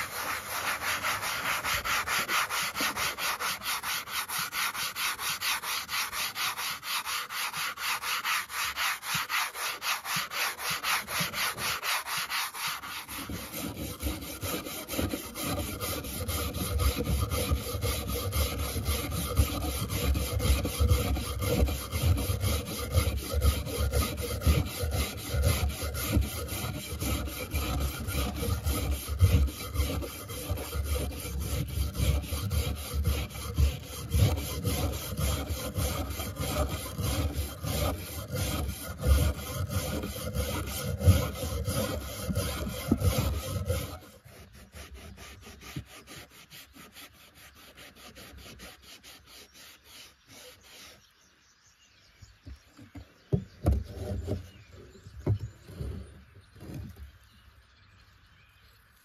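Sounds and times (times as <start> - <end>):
sanding sponge rubbing metal: 0.0 - 51.0
wire brush scrubbing rust: 0.0 - 51.0.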